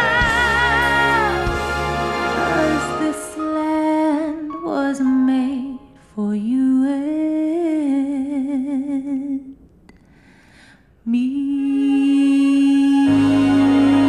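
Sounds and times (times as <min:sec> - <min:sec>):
woman singing: 0:00.0 - 0:09.6, 0:11.0 - 0:14.0.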